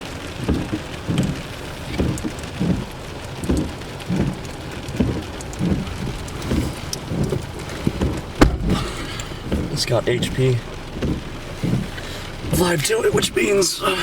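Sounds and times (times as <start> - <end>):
low rumbling thuds: 0.0 - 13.8
heavy rain: 0.0 - 14.0.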